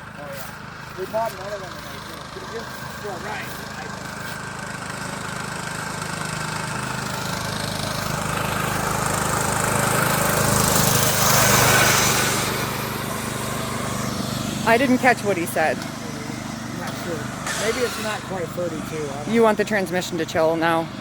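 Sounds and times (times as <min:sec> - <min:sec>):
riding lawnmower engine passing: 0:00.0 - 0:21.0.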